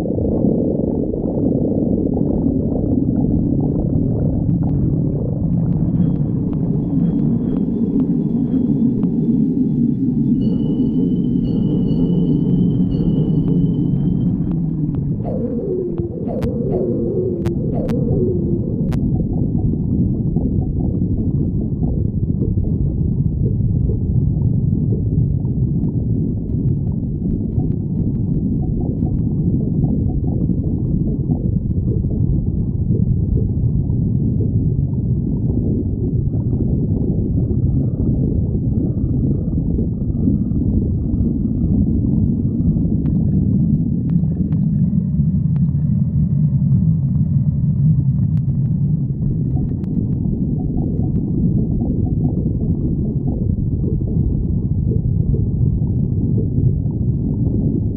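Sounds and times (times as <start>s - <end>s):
stomach growling: 0.0s - 9.6s, 12.9s - 57.9s.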